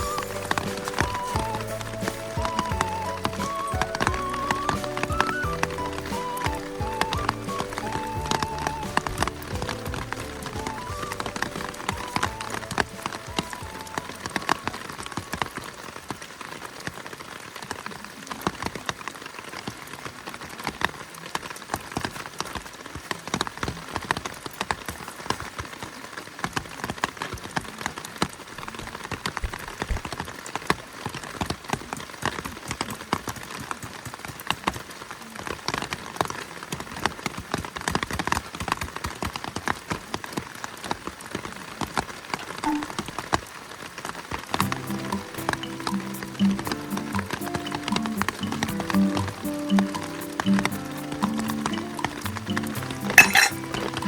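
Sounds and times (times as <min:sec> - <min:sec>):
heavy rain striking a surface: 0:00.0 - 0:54.0.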